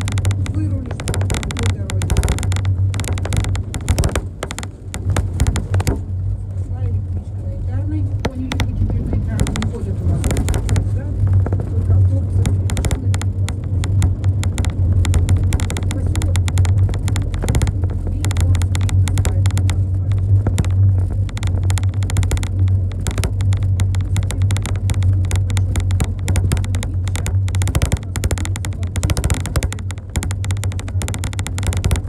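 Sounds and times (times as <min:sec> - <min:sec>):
irregular clicks and knocks: 0:00.0 - 0:06.1, 0:08.1 - 0:32.0
bus engine and road drone: 0:00.0 - 0:32.0.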